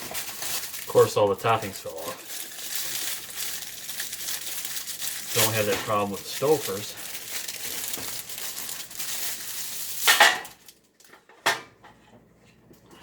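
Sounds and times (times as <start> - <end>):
plastic wrapping rustling: 0.0 - 11.2.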